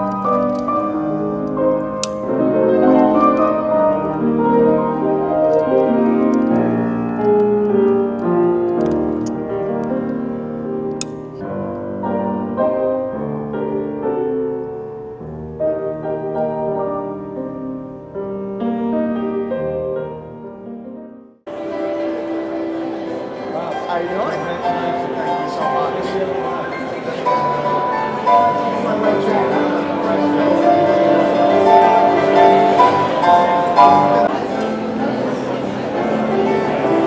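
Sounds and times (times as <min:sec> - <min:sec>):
piano playing: 0:00.0 - 0:37.0.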